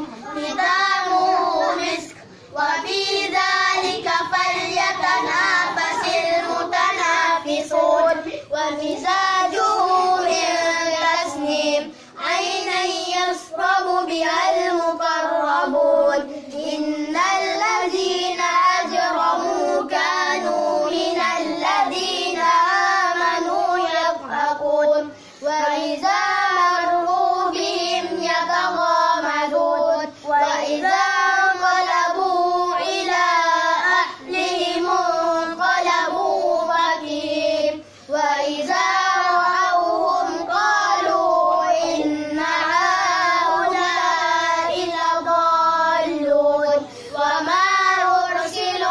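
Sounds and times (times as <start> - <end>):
boys chanting recitation: 0.0 - 48.9.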